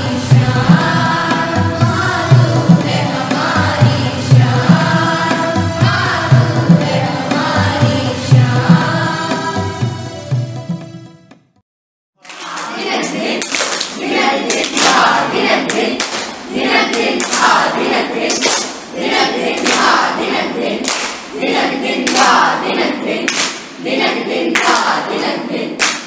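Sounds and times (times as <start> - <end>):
rhythmic handclaps: 0.0 - 7.8, 12.2 - 26.0
group of voices singing: 0.0 - 10.2, 12.2 - 26.0.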